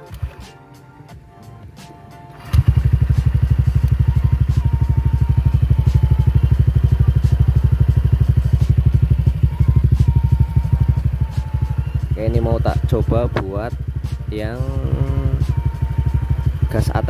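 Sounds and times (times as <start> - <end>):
scooter engine idling: 2.3 - 17.0.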